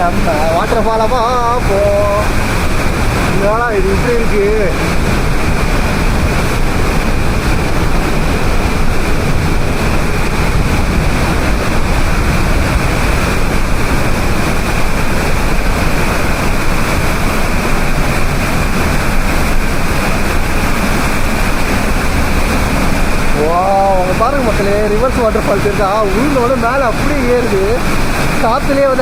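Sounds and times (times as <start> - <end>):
waterfall roaring: 0.0 - 29.0
wind on microphone: 0.0 - 29.0.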